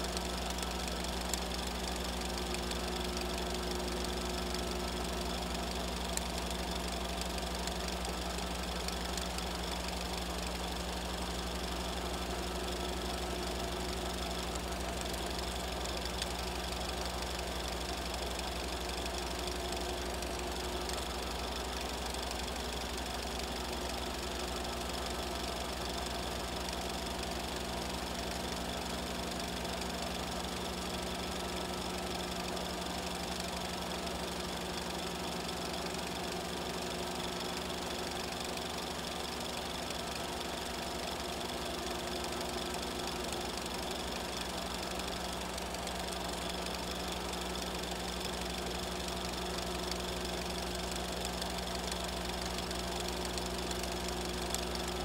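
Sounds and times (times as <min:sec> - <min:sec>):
film projector running: 0:00.0 - 0:55.0.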